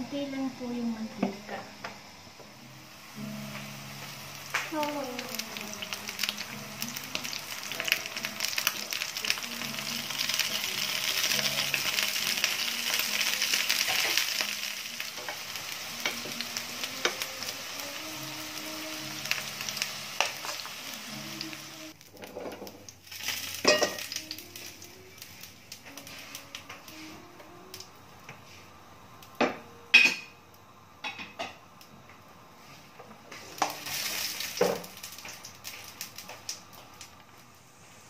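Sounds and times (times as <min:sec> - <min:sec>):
eggplant sizzling in oil: 0:00.0 - 0:38.0.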